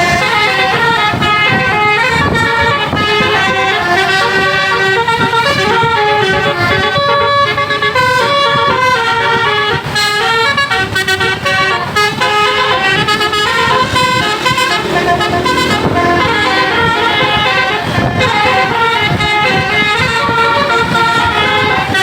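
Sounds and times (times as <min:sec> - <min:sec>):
multi-tone bus horn tune: 0:00.0 - 0:22.0.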